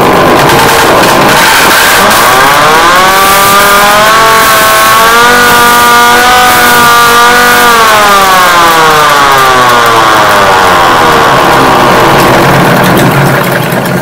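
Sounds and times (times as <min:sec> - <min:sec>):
emergency siren wailing: 0:01.3 - 0:13.2.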